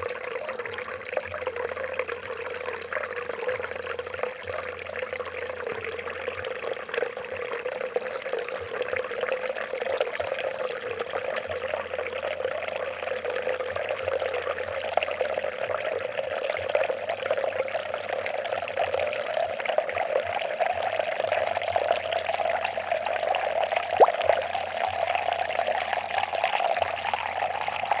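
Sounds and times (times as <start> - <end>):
water trickling and gurgling: 0.0 - 28.0.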